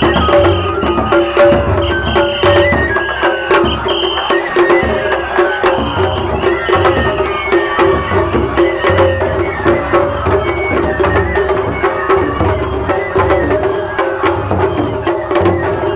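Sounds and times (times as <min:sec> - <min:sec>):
drums beating: 0:00.0 - 0:15.9
sustained pitched tones: 0:00.0 - 0:15.9.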